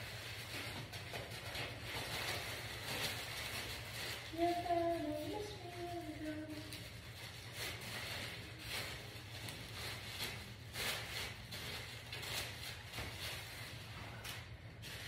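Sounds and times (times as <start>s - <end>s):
paper crackling and rustling: 0.0s - 15.0s.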